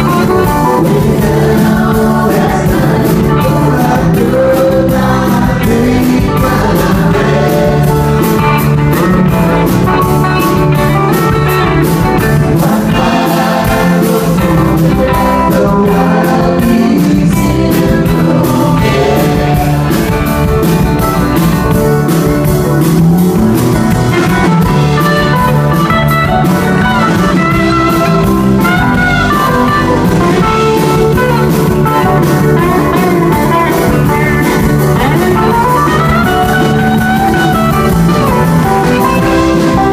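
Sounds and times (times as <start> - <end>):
electric guitar lead: 0.0 - 39.9
live rock band playing: 0.0 - 39.9.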